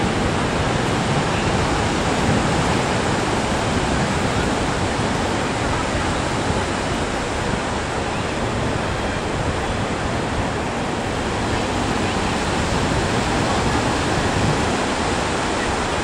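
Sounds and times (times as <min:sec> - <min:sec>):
sea waves breaking: 0:00.0 - 0:16.0
wind: 0:00.0 - 0:16.0.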